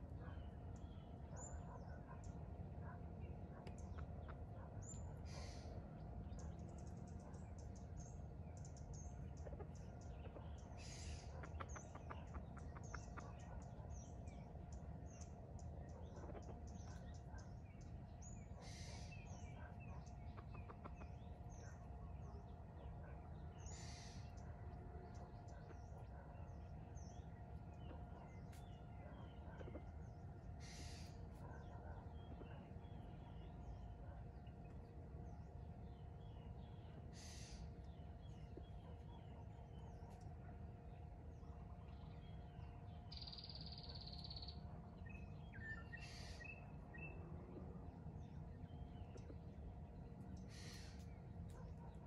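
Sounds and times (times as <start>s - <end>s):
birds chirping: 0.0s - 52.0s
faint steady hum: 0.0s - 52.0s.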